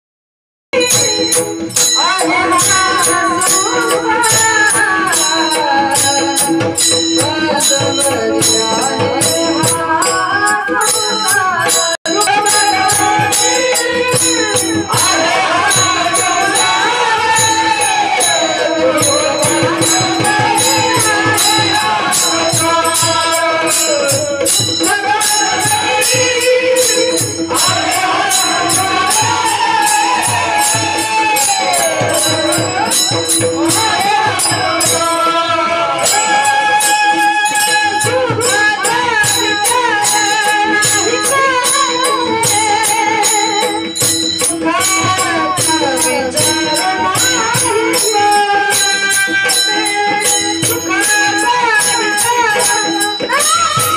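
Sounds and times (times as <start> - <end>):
jingling hand percussion: 0.8 - 53.9
person singing: 0.8 - 53.9.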